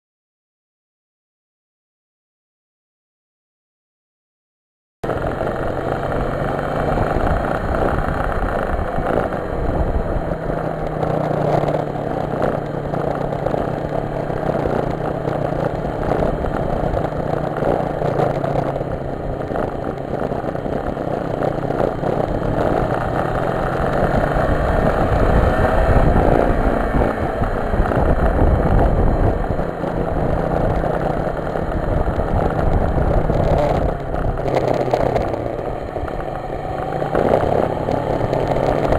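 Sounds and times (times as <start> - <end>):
vehicle engine running: 5.0 - 38.9.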